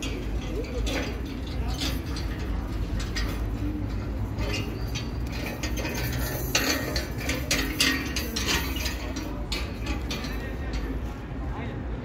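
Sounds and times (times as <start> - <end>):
metal or crockery clinking: 0.0 - 11.0.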